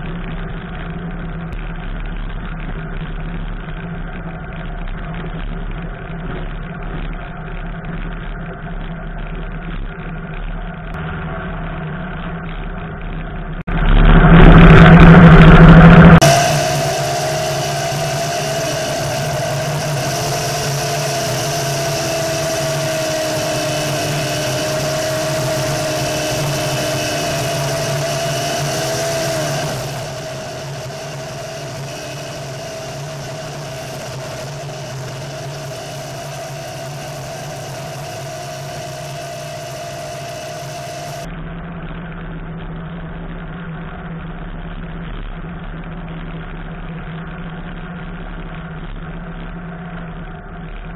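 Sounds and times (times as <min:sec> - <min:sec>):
buggy engine cruising: 0:00.0 - 0:50.9.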